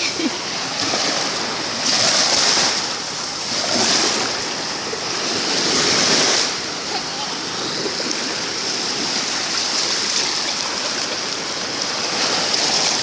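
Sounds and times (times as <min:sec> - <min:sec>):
sea waves washing up: 0:00.0 - 0:13.0.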